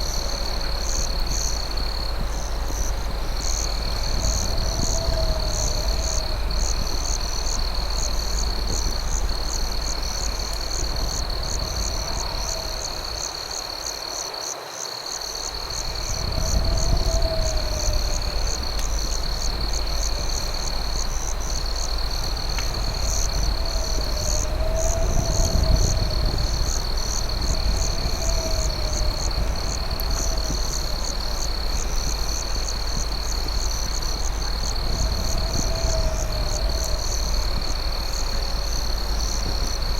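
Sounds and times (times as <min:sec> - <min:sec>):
low rumble: 0:00.0 - 0:13.8, 0:15.5 - 0:39.9
fast pulsing insect chirp: 0:00.0 - 0:14.2, 0:15.3 - 0:39.9
crickets trilling: 0:00.0 - 0:39.9.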